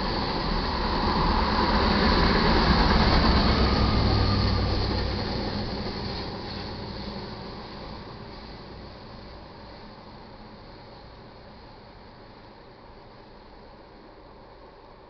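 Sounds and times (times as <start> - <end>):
locomotive engine rumble: 0.0 - 14.1
wheel on rail noise: 0.0 - 15.0.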